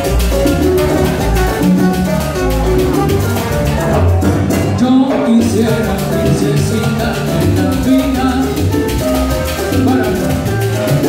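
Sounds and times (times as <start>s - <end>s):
congas timbales and bongos: 0.0s - 11.0s
salsa band playing: 0.0s - 11.0s
trombone: 0.0s - 11.0s.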